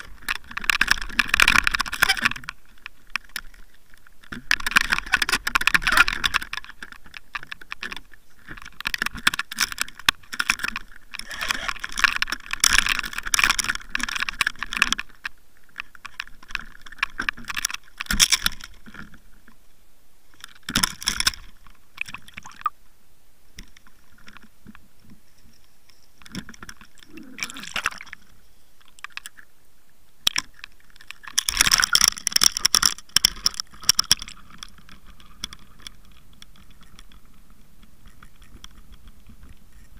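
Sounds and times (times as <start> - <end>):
water splashing and gurgling: 0.0 - 19.4, 20.4 - 22.8, 26.2 - 29.5, 30.2 - 37.3.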